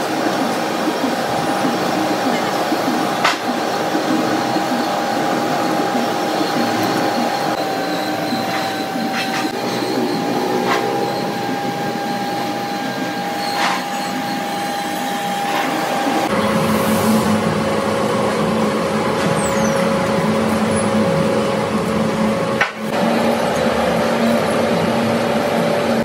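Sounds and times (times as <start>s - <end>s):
boring machine humming: 0.0s - 26.0s.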